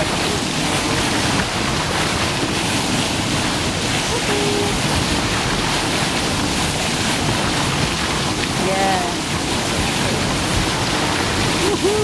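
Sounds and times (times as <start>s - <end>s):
water rushing along boat bow: 0.0s - 12.0s.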